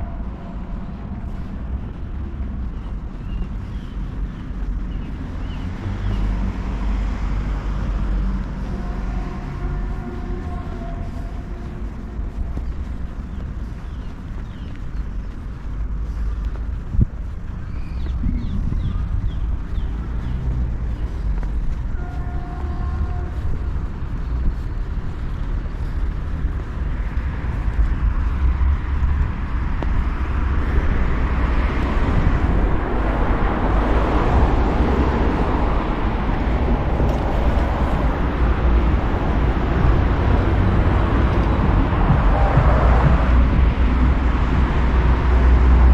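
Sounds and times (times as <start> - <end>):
passing vehicle noise: 0.0 - 45.9
road traffic rumble: 0.0 - 45.9.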